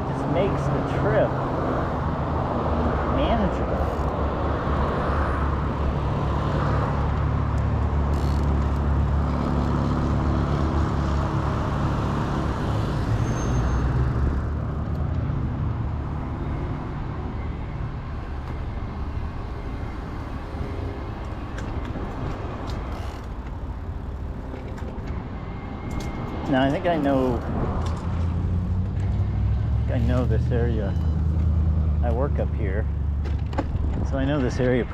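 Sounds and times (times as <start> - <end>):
road and wind noise: 0.0 - 34.9.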